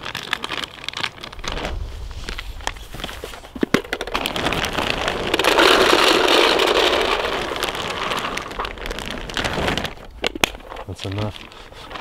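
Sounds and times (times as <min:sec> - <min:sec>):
paintballs rattling into hopper: 0:00.0 - 0:12.0.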